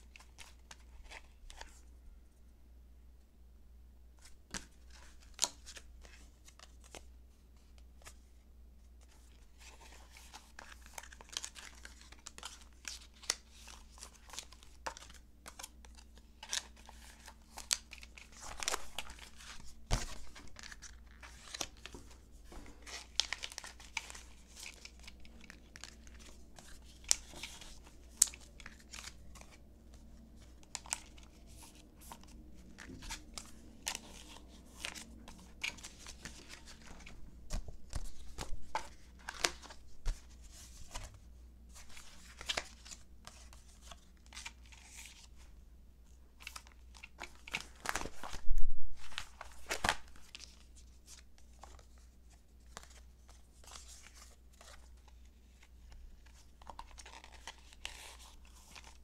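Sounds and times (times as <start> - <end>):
plastic pages crinkling: 9.0 - 45.5, 46.4 - 59.0.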